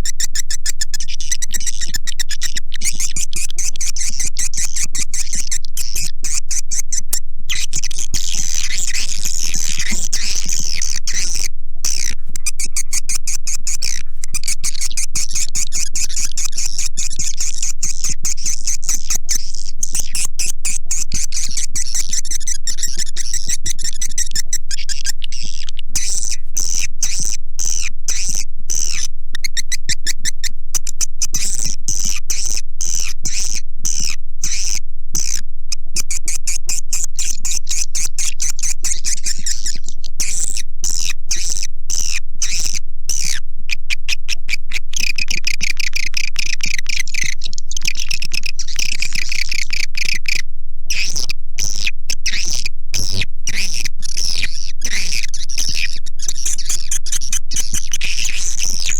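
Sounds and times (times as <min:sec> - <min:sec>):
swiftlet twittering chirps: 0:00.0 - 0:35.4, 0:36.0 - 0:43.9, 0:44.5 - 0:58.9.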